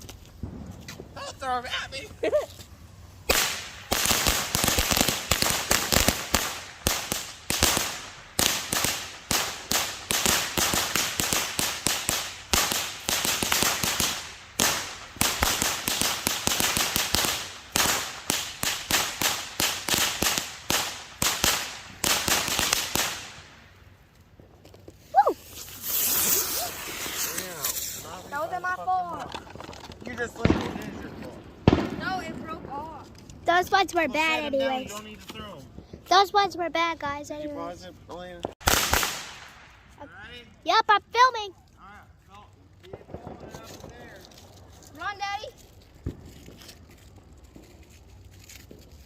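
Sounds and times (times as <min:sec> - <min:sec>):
firecrackers banging: 0:00.0 - 0:36.7, 0:38.4 - 0:41.5, 0:42.3 - 0:49.0.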